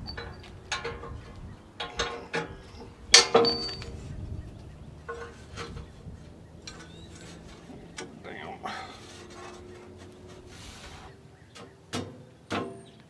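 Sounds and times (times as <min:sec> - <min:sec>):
metal guard clanking on frame: 0:00.0 - 0:13.0.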